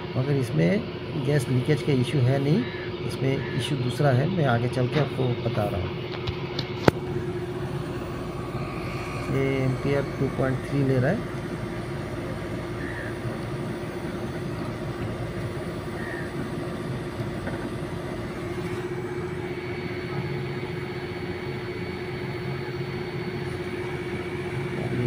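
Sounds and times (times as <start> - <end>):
air conditioner unit humming: 0.0 - 25.0
higher whine: 0.0 - 25.0.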